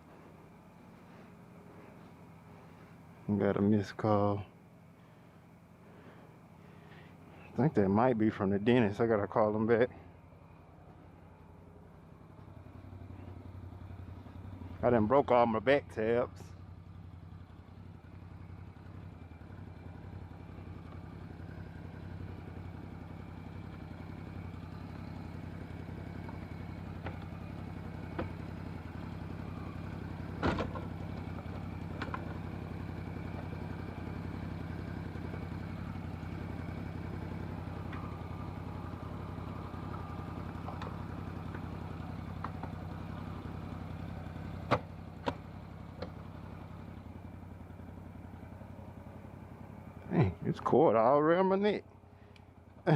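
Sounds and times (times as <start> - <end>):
atv engine idling: 0.0 - 52.9.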